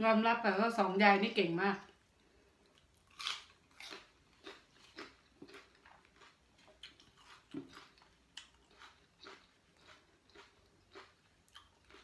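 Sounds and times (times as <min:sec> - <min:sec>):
person chewing food: 0:01.9 - 0:12.0.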